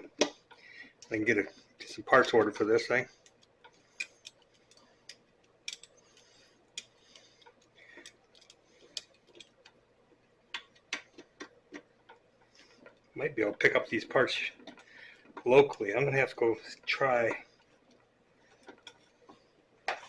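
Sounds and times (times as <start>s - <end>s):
light clicks and taps: 0.1s - 16.0s, 16.7s - 20.0s.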